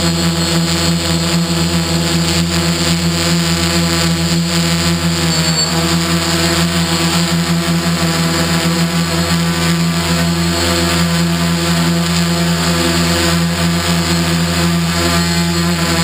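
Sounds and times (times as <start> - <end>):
drone motors humming: 0.0 - 16.0.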